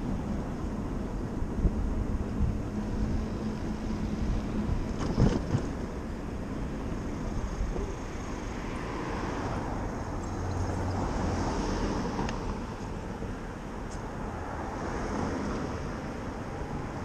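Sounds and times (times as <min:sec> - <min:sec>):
traffic: 0:00.0 - 0:17.0
wind rushing over microphone: 0:00.0 - 0:17.0.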